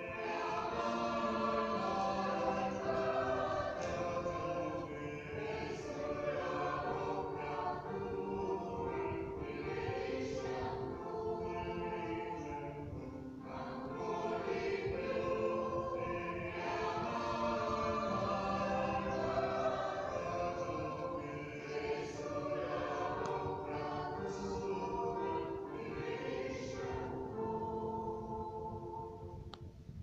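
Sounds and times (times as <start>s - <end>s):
choir singing: 0.0s - 29.5s.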